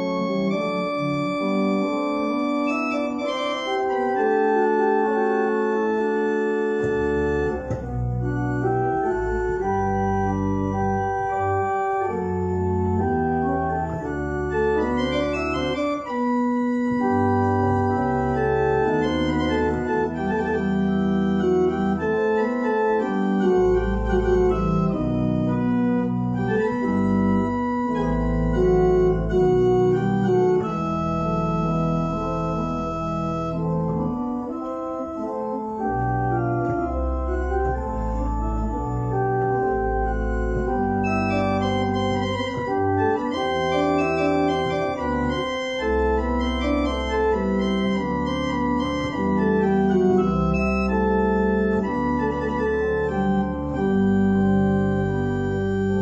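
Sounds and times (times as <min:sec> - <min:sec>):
church organ chords: 0:00.0 - 0:56.0
deep pedal bass notes: 0:00.0 - 0:56.0.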